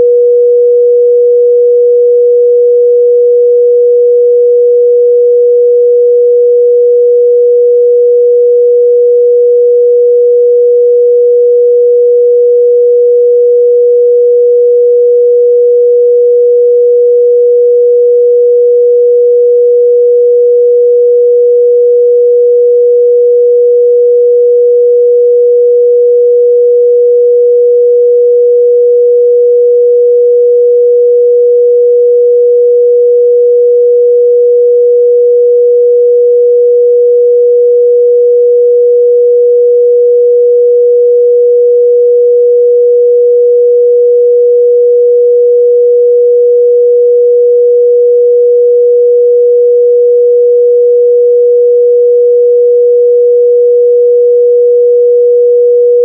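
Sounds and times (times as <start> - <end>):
pure sine test tone: 0.0 - 56.0.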